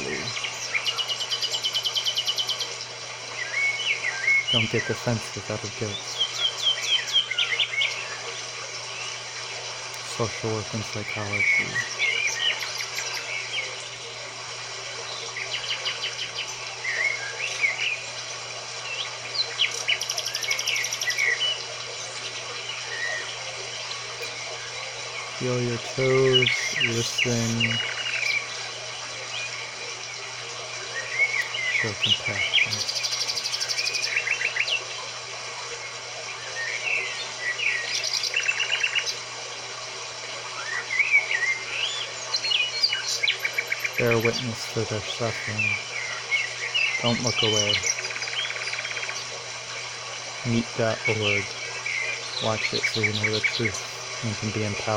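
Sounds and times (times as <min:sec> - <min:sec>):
songbirds chirping and trilling: 0:00.0 - 0:54.9
steady hiss: 0:00.0 - 0:54.9.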